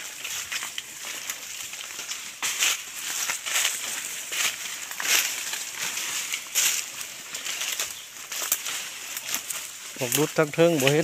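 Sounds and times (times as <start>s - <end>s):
footsteps crunching dry leaves: 0.0s - 11.0s
leaves rustling: 0.0s - 11.0s.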